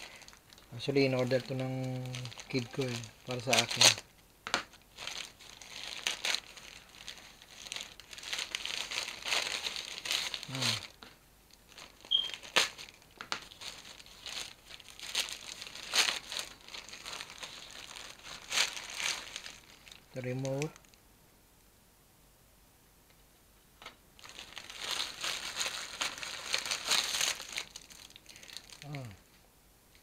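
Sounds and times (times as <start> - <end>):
plastic bag crinkling and tearing: 0.0 - 21.0, 23.8 - 29.2.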